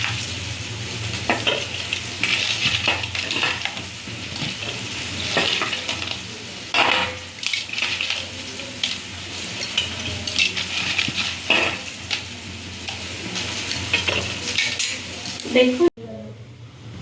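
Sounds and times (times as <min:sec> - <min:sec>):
curry sizzling in a pan: 0:00.0 - 0:15.9
utensil scraping and clinking pan: 0:01.1 - 0:12.3, 0:12.9 - 0:15.4.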